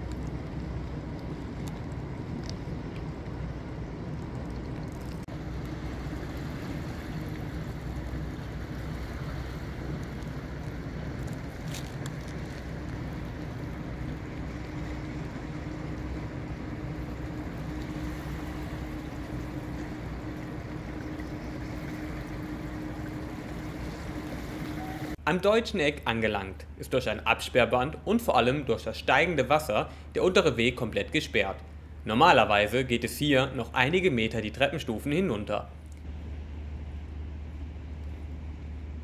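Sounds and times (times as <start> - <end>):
city traffic rumble: 0.0 - 39.0
faint steady hum: 0.0 - 39.0.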